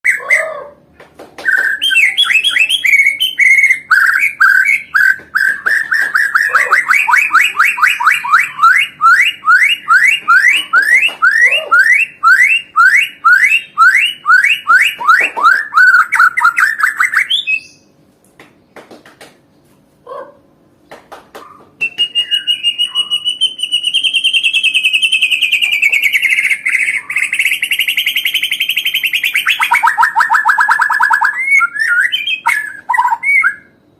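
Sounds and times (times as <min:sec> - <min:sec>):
bird whistling rising notes: 0:01.5 - 0:17.9, 0:21.8 - 0:33.8
fast high bird trill: 0:01.5 - 0:17.9, 0:22.2 - 0:33.7.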